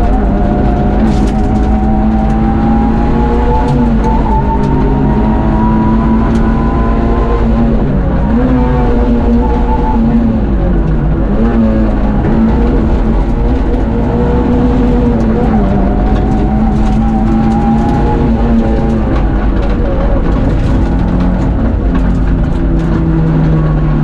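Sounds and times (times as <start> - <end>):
car engine from inside cabin: 0.0 - 24.0.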